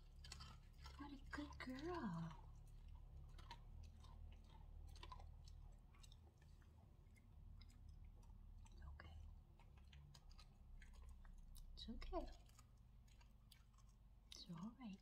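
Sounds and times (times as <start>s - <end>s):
dog chewing a treat: 0.0s - 15.0s
low steady hum: 0.0s - 15.0s.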